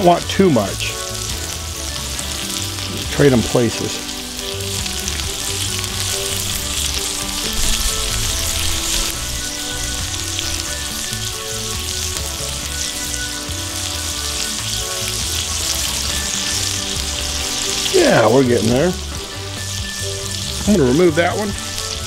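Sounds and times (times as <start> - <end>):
burger patties sizzling on griddle: 0.0 - 22.0.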